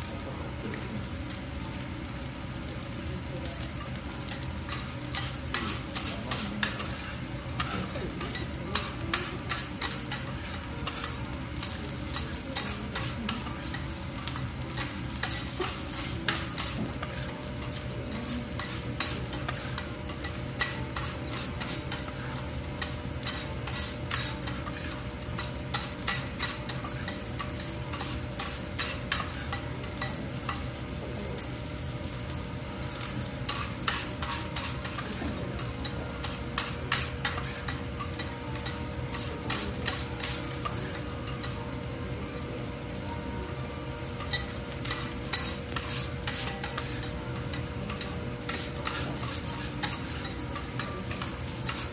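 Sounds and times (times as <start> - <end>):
garlic sizzling in oil: 0.0 - 51.9
steel spatulas scraping griddle: 4.7 - 30.9, 32.9 - 41.6, 44.2 - 51.9.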